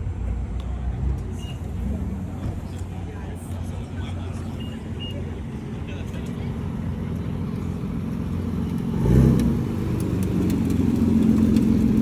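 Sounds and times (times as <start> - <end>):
car engine running: 1.2 - 12.0.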